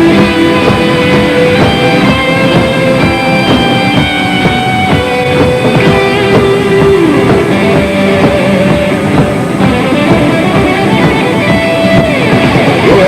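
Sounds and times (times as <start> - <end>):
drum kit playing steady beat: 0.0 - 13.0
rock guitars: 0.0 - 13.0.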